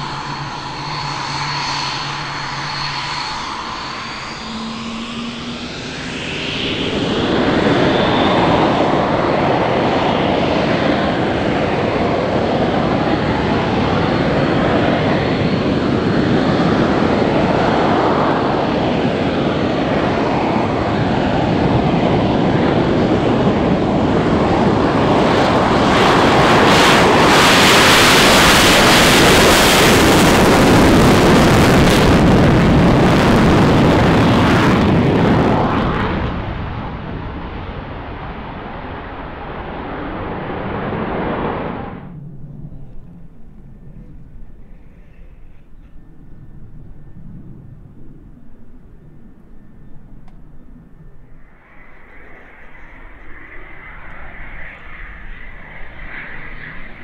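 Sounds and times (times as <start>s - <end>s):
jet engine roar: 0.0s - 57.0s.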